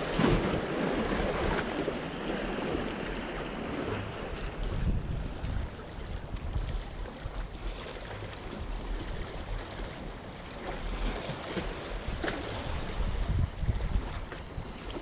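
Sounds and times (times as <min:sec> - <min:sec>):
wind buffeting microphone: 0:00.0 - 0:10.2, 0:10.9 - 0:15.0
waves splashing against boulders: 0:00.0 - 0:15.0.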